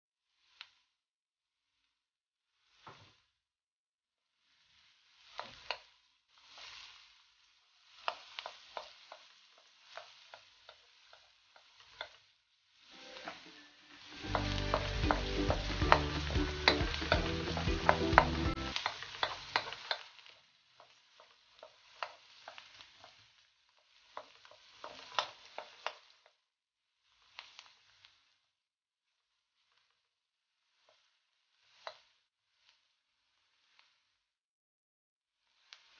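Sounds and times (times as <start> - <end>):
onion and garlic sizzling in oil: 0.3 - 0.8, 4.4 - 28.5, 29.4 - 34.2, 35.4 - 35.9
wooden spoon scraping a wok: 4.4 - 28.4, 29.3 - 34.3, 35.5 - 35.9.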